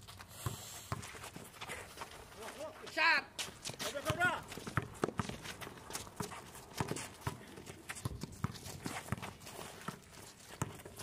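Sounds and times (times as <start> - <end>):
basketball bouncing on asphalt: 0.3 - 2.2, 3.4 - 11.0.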